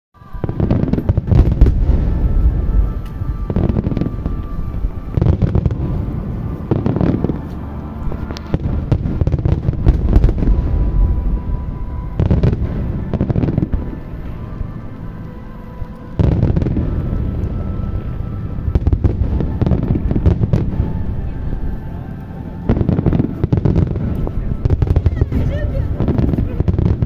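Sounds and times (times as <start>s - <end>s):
fireworks bangs and crackling: 0.2s - 27.0s.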